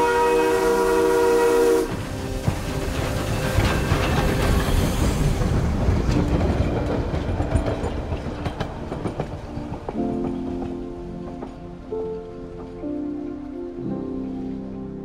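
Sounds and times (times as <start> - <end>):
passenger train rumbling past: 0.0 - 15.0
wheels clicking over rail joints: 1.2 - 13.5.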